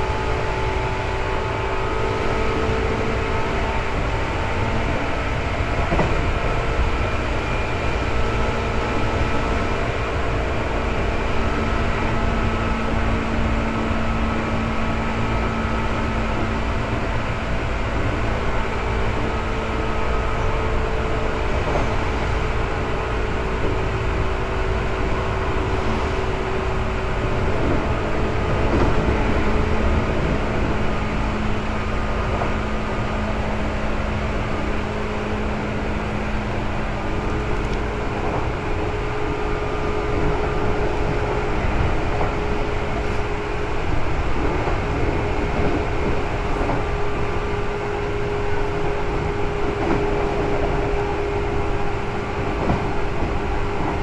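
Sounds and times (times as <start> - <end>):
train motor hum: 0.0 - 54.0
train wheels rumbling on rail: 0.0 - 54.0.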